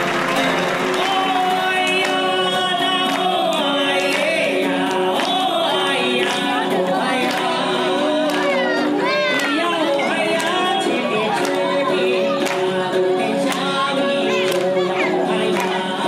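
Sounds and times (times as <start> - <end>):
person singing slow song: 0.0 - 16.0
sustained instrumental accompaniment: 0.0 - 16.0.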